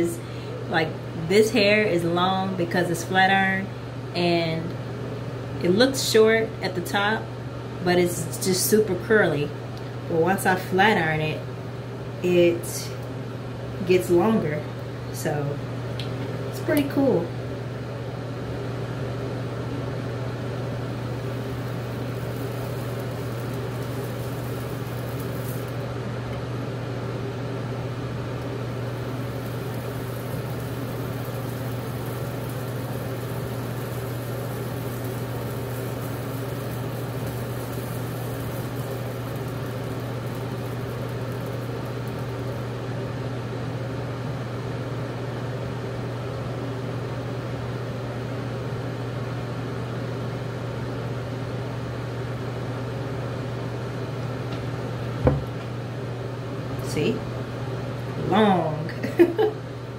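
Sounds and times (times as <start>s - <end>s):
ventilation fan hum: 0.0s - 59.9s.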